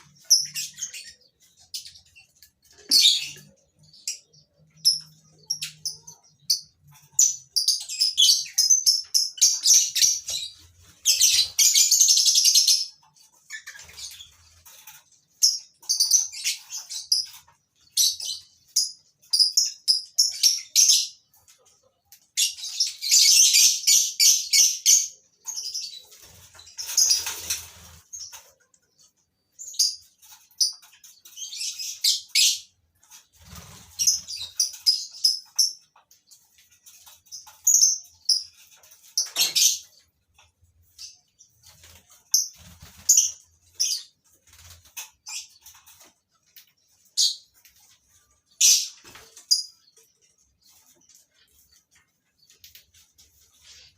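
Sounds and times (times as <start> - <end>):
lovebirds chirping: 0.0 - 53.9.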